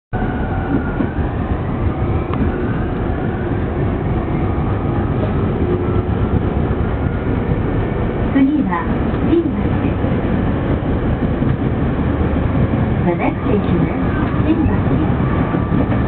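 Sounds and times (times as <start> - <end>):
train wheels rumbling on rail: 0.2 - 16.0.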